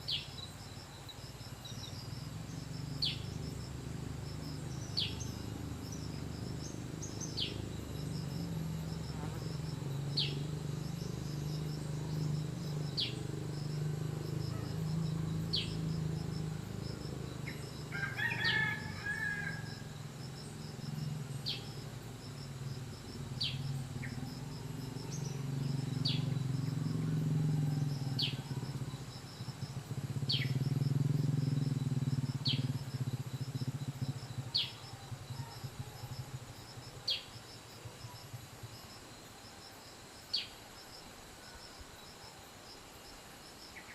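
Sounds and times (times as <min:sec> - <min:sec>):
insects buzzing: 0:00.0 - 0:43.9.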